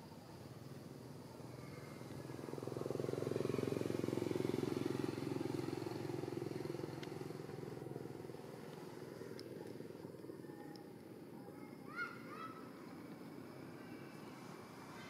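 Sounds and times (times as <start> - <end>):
motorbike passing by: 0.1 - 10.4, 11.9 - 15.0.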